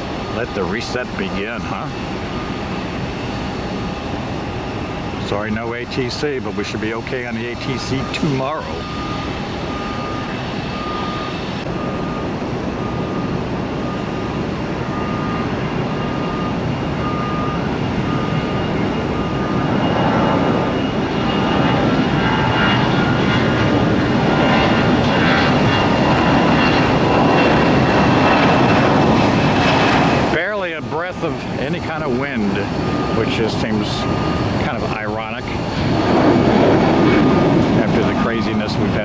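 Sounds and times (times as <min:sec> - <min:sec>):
jet airliner engines whining: 0:00.0 - 0:39.0.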